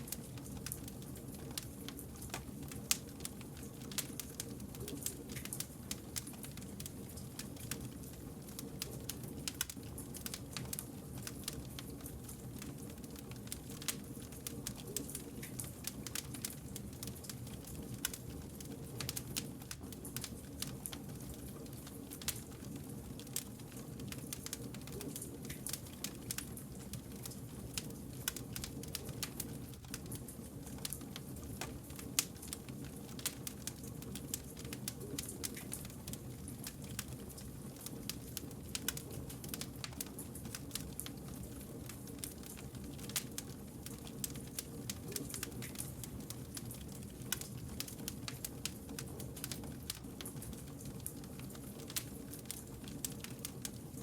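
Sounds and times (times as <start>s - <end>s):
low rumble of burning logs: 0.0s - 54.0s
wood fire crackling: 0.0s - 54.0s.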